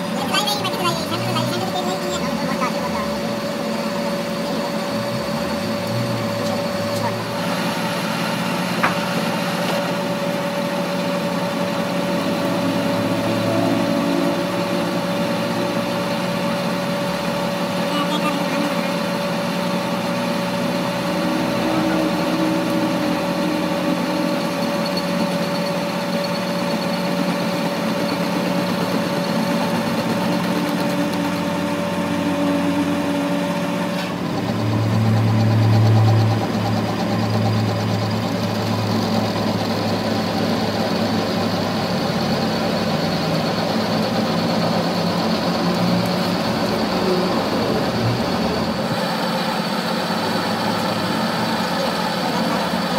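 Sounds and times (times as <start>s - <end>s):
metal lathe running: 0.0s - 52.9s.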